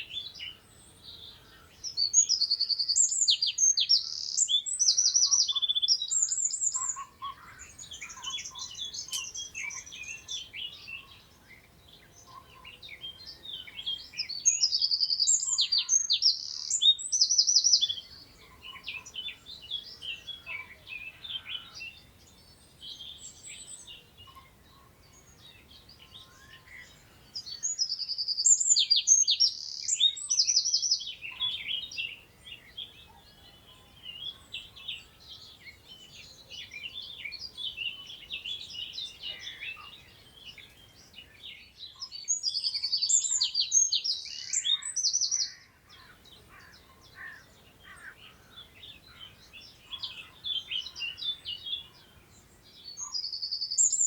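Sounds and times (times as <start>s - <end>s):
nearby bird loud song phrase: 0.0s - 54.0s
songbirds singing and twittering: 0.0s - 54.0s.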